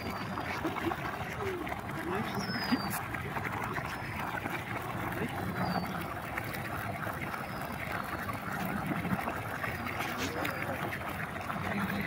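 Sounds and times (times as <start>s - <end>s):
fountain water splashing into a pond: 0.0s - 12.0s.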